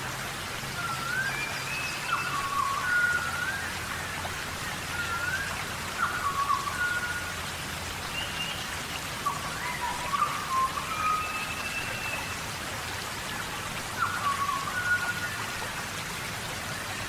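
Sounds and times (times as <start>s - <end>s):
rain on foliage: 0.0s - 17.0s.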